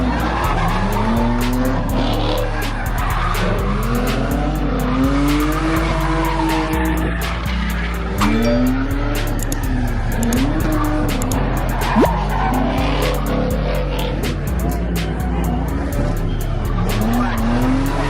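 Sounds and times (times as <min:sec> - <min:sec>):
car engine revving: 0:00.0 - 0:18.0
hip-hop music with heavy bass: 0:00.0 - 0:18.0.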